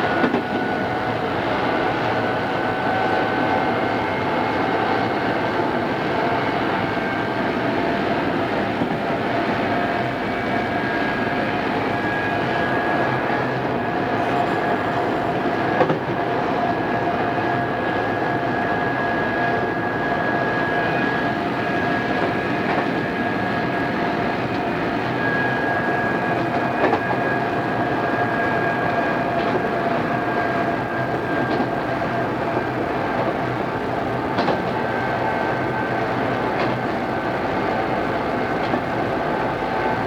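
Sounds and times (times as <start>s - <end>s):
train rumble and whine: 0.0s - 40.0s.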